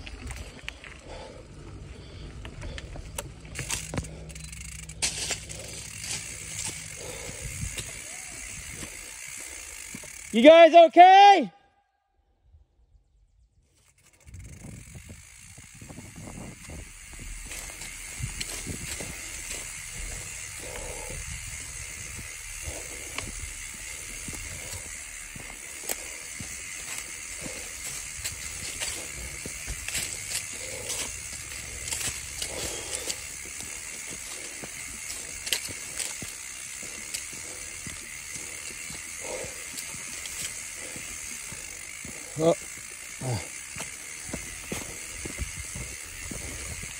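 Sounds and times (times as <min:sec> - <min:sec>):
bike rattling over bumps: 0:00.0 - 0:10.5, 0:13.7 - 0:46.9
bike tyres on dirt and leaves: 0:00.0 - 0:11.5, 0:12.9 - 0:46.9.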